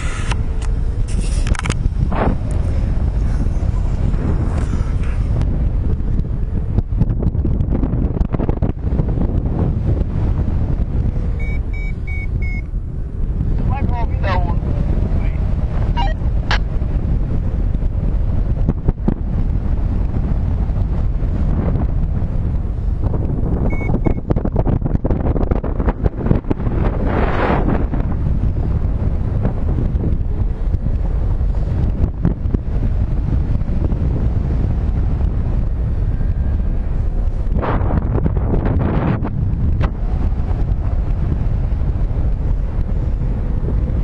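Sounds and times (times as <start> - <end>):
wind noise rumble: 0.0 - 44.0.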